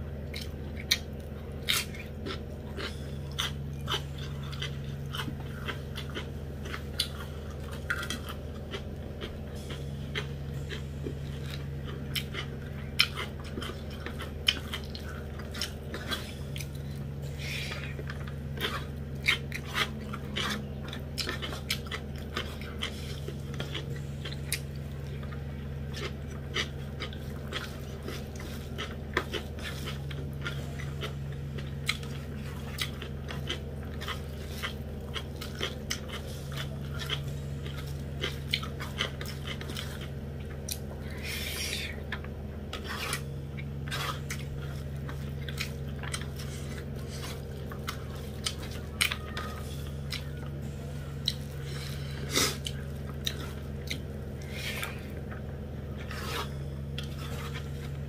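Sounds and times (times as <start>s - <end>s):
steady low hum: 0.0s - 58.0s
chewing and mouth smacking: 0.2s - 58.0s.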